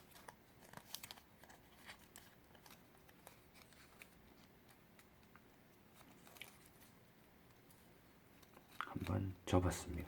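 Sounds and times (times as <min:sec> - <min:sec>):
paper crinkling being folded: 0:00.0 - 0:10.0.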